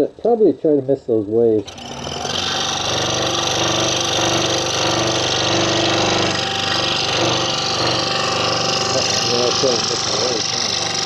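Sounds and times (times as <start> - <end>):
scroll saw cutting wood: 1.3 - 11.0.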